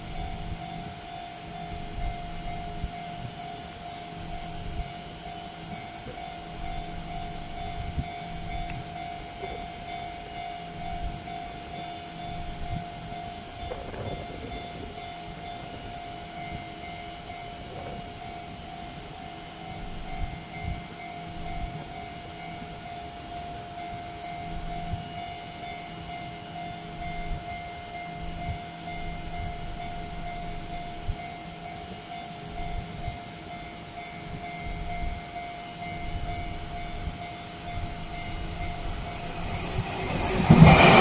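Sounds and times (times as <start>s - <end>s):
train running noise: 0.0s - 41.0s.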